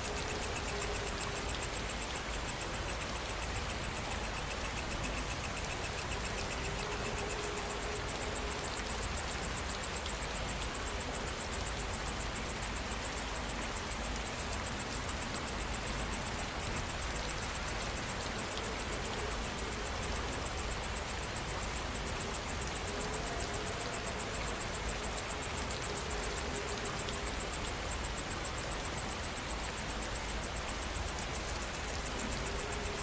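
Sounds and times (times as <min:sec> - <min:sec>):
night insects chirping: 0:00.0 - 0:33.0
steady rain: 0:00.0 - 0:33.0.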